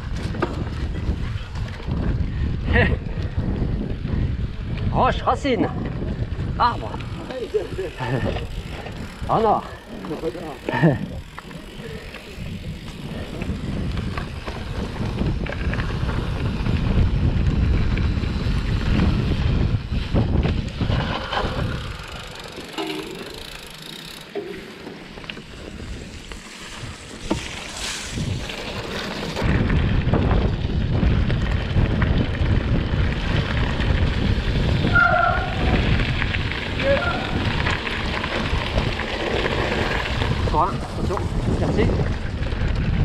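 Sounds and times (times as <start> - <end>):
wind buffeting microphone: 0.0 - 24.2, 25.0 - 43.0
mountain bike rattles and knocks: 0.0 - 43.0.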